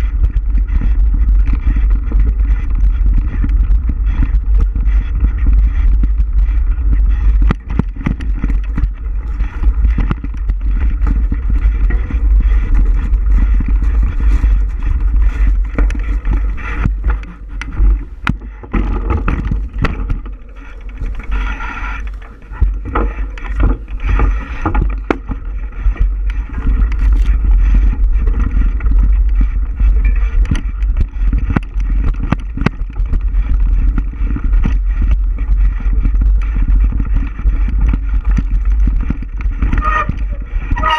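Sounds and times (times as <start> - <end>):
bike rattling over bumps: 0.0 - 40.9
wind buffeting microphone: 0.0 - 40.9.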